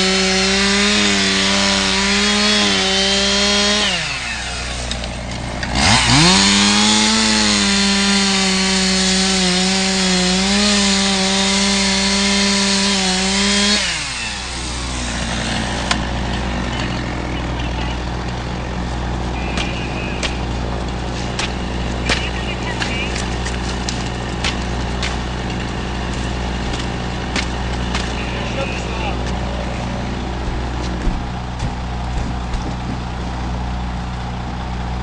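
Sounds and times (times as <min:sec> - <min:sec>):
power saw cutting: 0:00.0 - 0:32.1.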